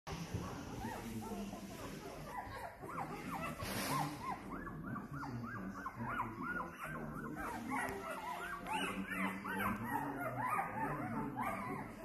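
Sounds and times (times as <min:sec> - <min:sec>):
puppies squeaking and whimpering: 0:00.1 - 0:12.0.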